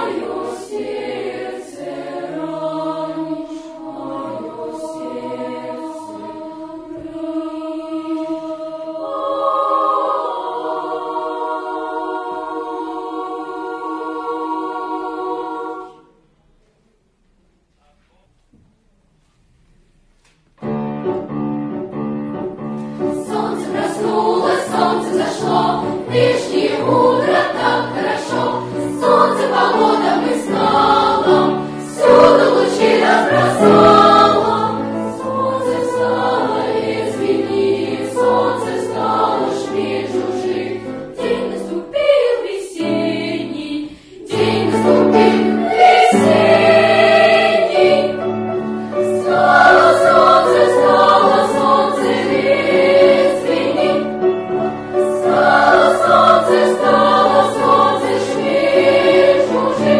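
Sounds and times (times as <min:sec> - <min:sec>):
children's choir singing: 0:00.0 - 0:16.4, 0:23.0 - 0:59.9.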